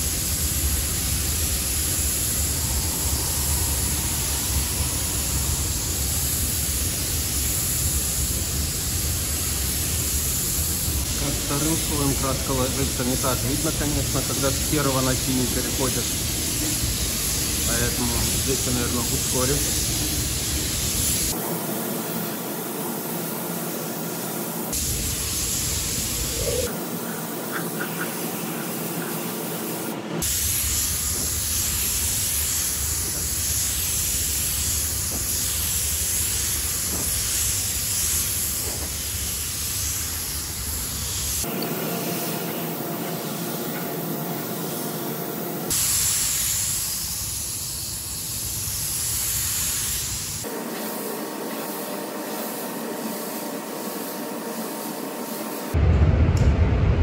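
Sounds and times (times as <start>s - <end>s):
spray gun hissing: 0.0s - 55.8s.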